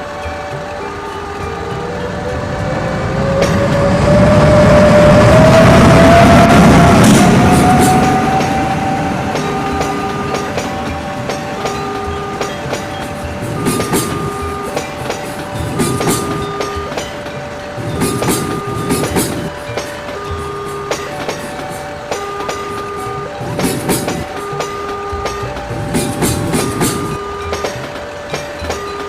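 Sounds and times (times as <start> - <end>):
electronic warning chime: 0.0 - 29.0
train wagons clattering over rails: 0.0 - 29.0.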